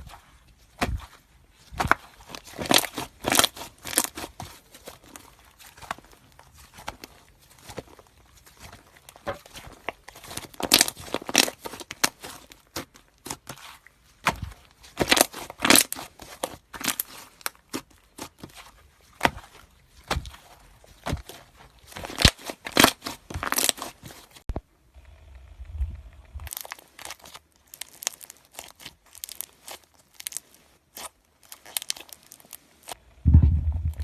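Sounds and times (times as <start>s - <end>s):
slime crackling and popping: 1.8s - 13.5s, 14.2s - 24.0s, 26.4s - 34.0s.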